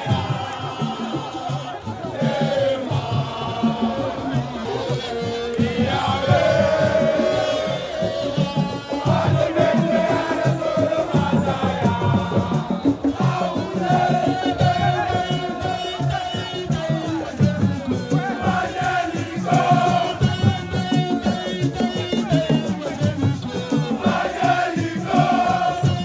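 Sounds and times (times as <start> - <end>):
crowd noise: 0.0 - 26.0
fast drumming: 0.0 - 26.0
group of voices singing and chanting: 0.0 - 26.0.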